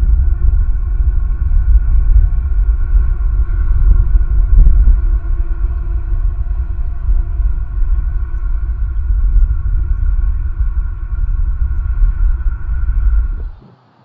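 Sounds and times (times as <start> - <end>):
wind buffeting microphone: 0.0 - 13.8
faint steady hum: 0.0 - 14.0.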